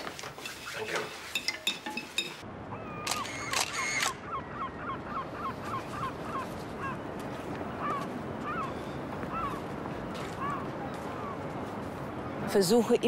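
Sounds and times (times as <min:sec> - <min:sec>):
gulls calling: 0:02.2 - 0:12.8.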